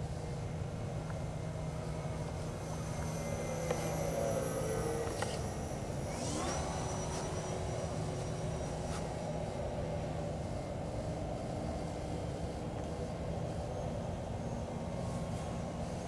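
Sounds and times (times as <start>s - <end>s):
model plane motor whine: 0.0s - 16.0s
steady low hum: 0.0s - 16.0s.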